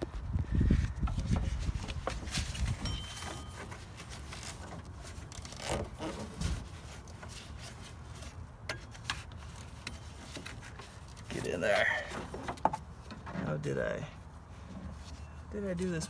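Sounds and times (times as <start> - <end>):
rubber belt rubbing and scraping: 0.0 - 16.0.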